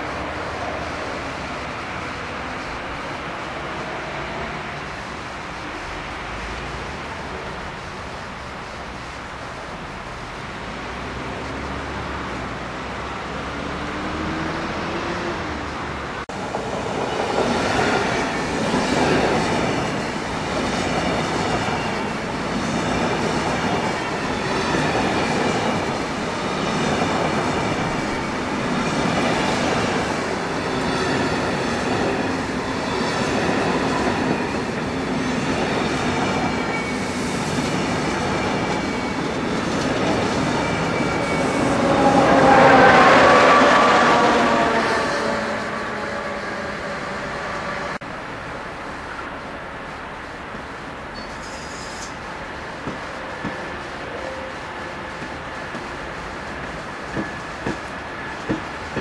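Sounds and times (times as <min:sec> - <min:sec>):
passenger train rumbling past: 0:00.0 - 0:59.0.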